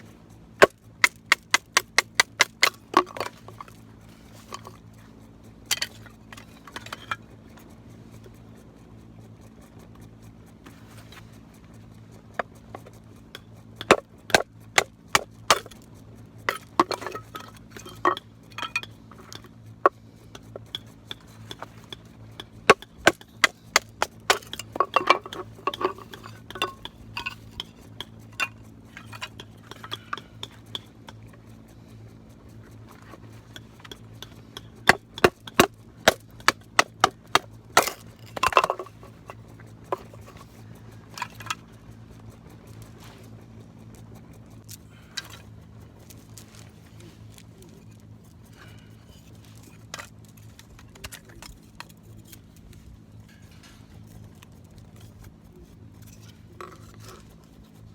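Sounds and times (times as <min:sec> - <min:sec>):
metal and wood clinking: 0:00.0 - 0:57.9.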